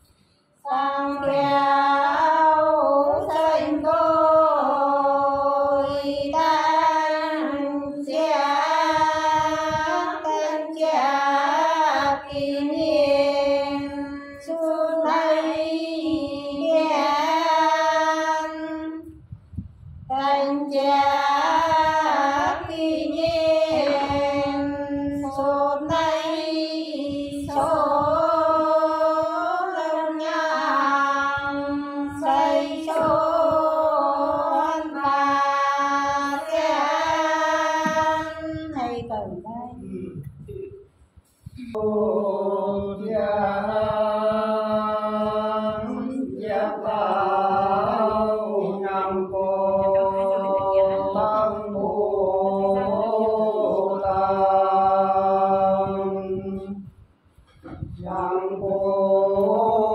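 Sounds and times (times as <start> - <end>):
women singing unaccompanied: 0.6 - 19.2, 20.0 - 40.8, 41.6 - 57.0, 57.6 - 59.9.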